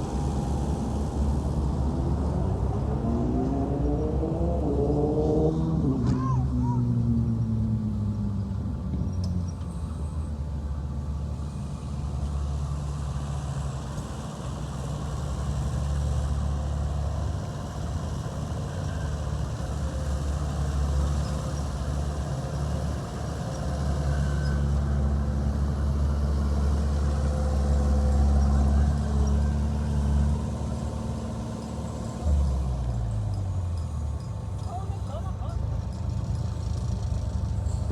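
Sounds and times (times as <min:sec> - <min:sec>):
heavy diesel engine running: 0:00.0 - 0:03.4, 0:09.7 - 0:37.9.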